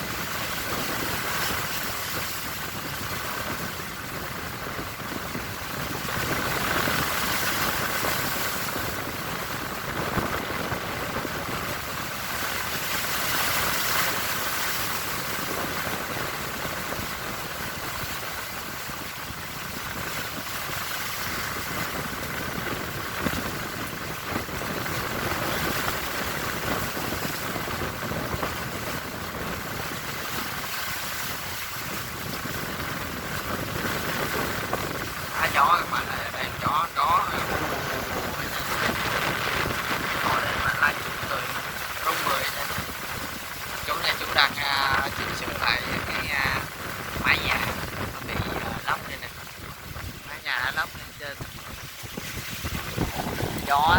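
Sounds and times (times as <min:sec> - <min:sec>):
sea waves: 0:00.0 - 0:53.9
strong wind: 0:00.0 - 0:53.9.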